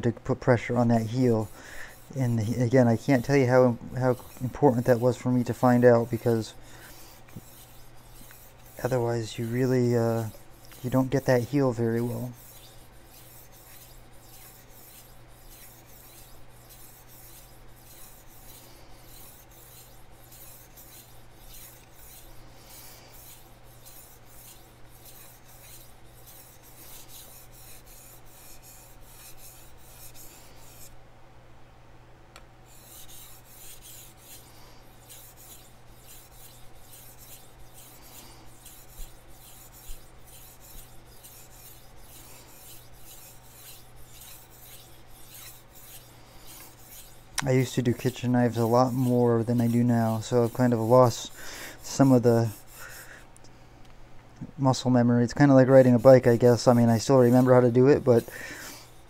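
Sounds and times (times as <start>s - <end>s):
knife scraping on whetstone: 0.6s - 31.0s, 32.7s - 53.2s, 55.4s - 59.0s.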